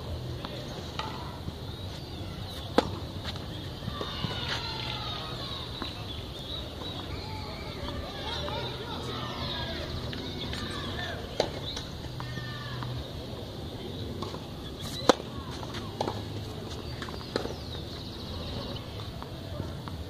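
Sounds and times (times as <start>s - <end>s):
tennis balls struck by rackets: 0.2s - 7.1s, 7.8s - 20.0s.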